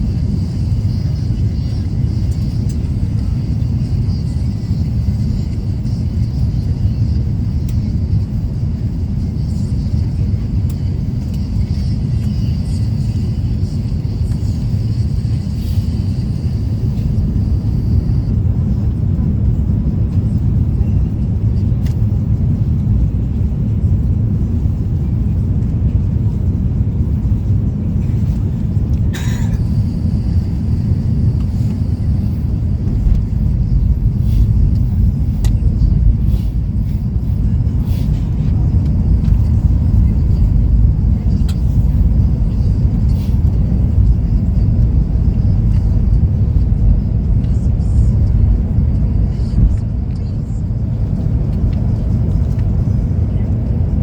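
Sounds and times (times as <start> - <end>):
vehicle rumbling in motion: 0.0 - 54.0.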